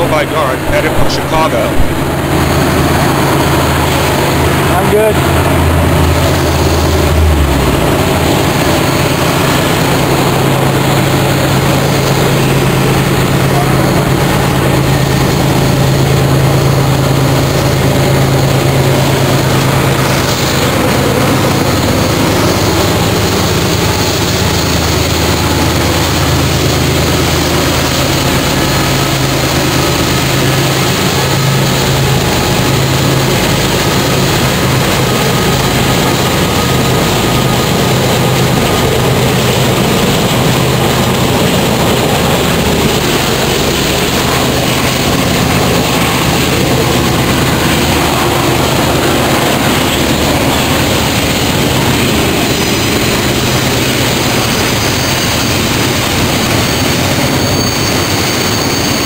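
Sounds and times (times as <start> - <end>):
diesel locomotive engines droning: 0.0 - 59.0
train cars rolling: 0.0 - 59.0.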